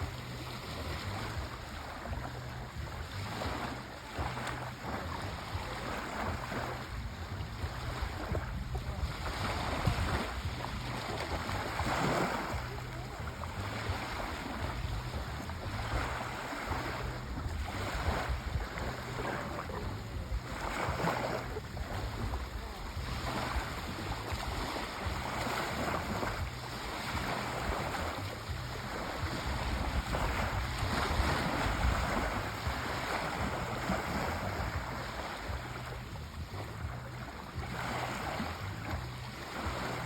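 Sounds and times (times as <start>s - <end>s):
sea waves washing in: 0.0s - 40.0s
steady low rumble: 0.0s - 40.0s.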